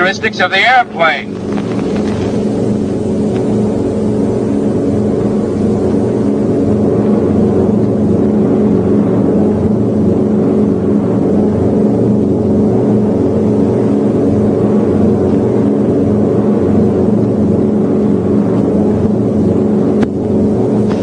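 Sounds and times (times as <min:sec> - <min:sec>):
aircraft engines droning: 0:00.0 - 0:21.0.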